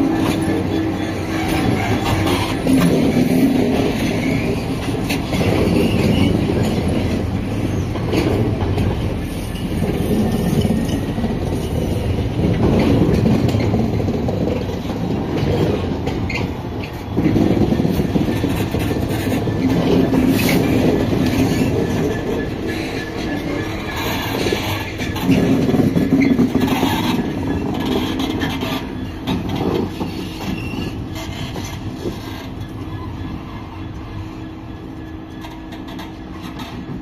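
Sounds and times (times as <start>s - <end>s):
train wheels clacking over rail joints: 0.0s - 34.1s
diesel locomotive passing: 0.0s - 37.0s.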